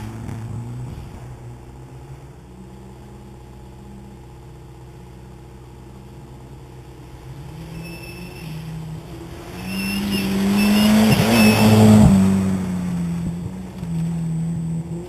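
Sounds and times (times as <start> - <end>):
distant rally car engine: 0.0 - 15.0.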